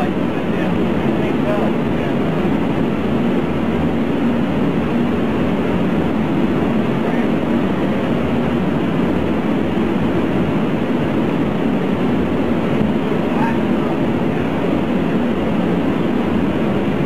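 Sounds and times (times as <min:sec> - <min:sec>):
loud rushing drone: 0:00.0 - 0:17.0.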